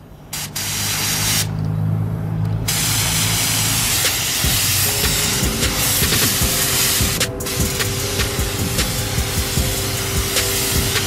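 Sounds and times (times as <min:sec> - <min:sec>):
spray gun hissing: 0:00.3 - 0:01.5, 0:02.7 - 0:11.0.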